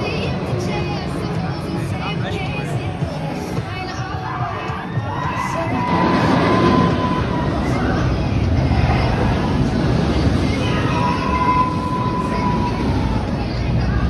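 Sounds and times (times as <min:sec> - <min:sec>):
roller coaster rumbling on track: 0:00.0 - 0:14.0.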